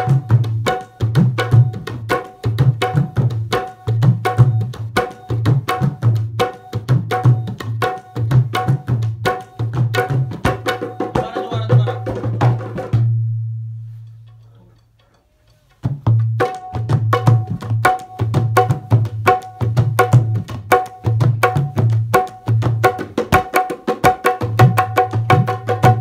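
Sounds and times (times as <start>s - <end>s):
tabla playing fast rhythm: 0.0s - 26.0s.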